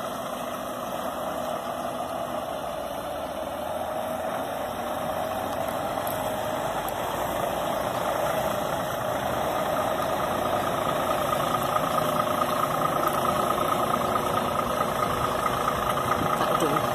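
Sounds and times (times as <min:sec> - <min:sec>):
truck diesel engine at low revs: 0:00.0 - 0:16.9.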